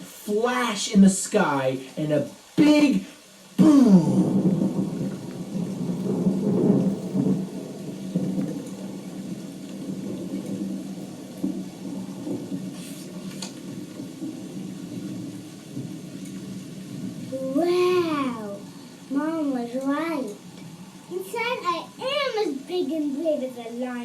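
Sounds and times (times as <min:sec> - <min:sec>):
rain: 0:00.0 - 0:24.0
thunder crackles: 0:00.0 - 0:24.0
thunder rumbling: 0:00.0 - 0:24.0.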